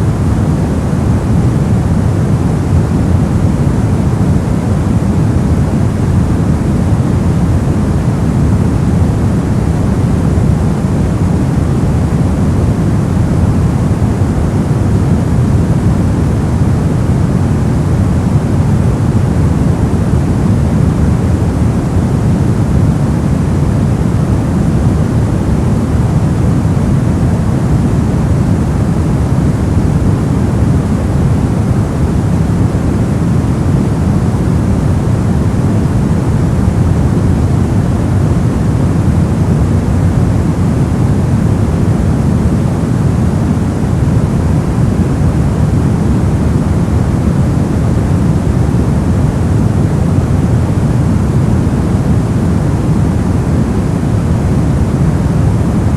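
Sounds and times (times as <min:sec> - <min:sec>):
white noise: 0:00.0 - 0:55.9.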